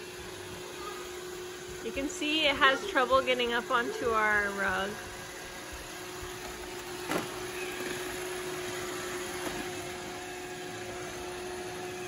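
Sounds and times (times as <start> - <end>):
robot vacuum whirring hum: 0.0 - 12.0.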